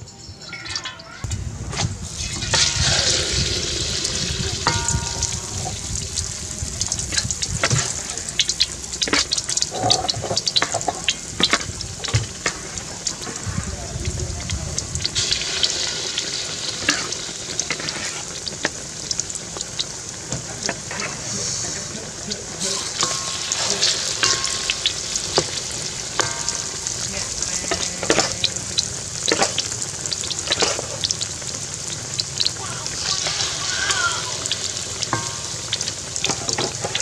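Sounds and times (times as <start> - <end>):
wings deep-frying in hot oil: 0.1 - 37.0.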